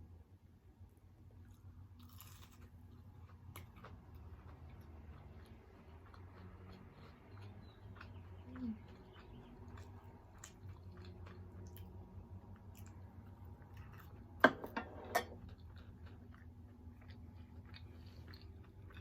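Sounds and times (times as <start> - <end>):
person chewing food: 1.4 - 14.4, 15.3 - 19.0.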